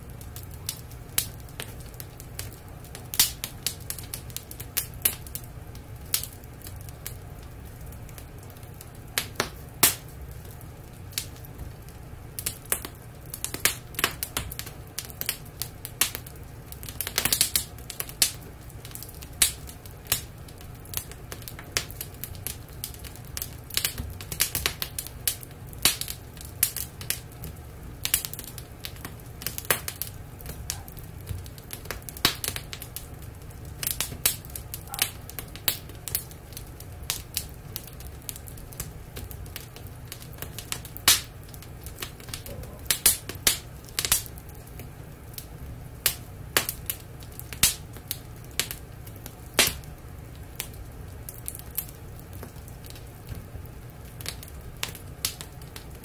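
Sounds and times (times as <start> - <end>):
steady low hum: 0.0 - 56.0
wood fire crackling and popping: 0.0 - 56.0.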